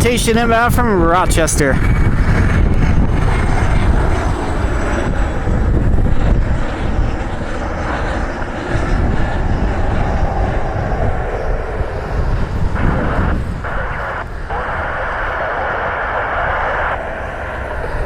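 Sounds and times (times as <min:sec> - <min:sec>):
jet aircraft engines rumbling: 0:00.0 - 0:18.0.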